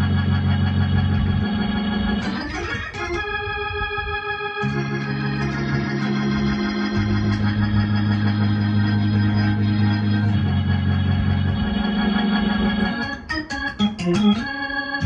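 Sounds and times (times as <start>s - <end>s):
gospel organ chords: 0.0s - 15.0s.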